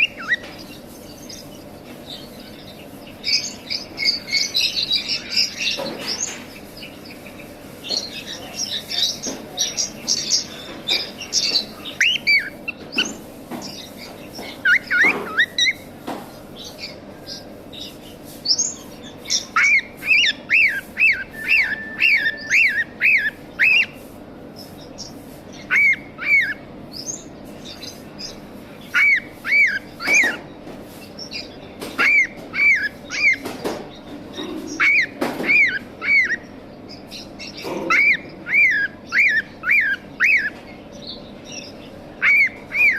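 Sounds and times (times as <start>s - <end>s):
cockatiels chirping: 0.0s - 42.9s
faint bird chirping: 0.0s - 42.9s.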